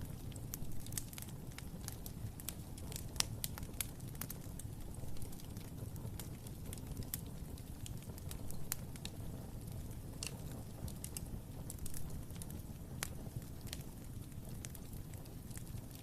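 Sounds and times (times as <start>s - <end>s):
fire crackles and pops: 0.0s - 16.0s
fire low rumble: 0.0s - 16.0s.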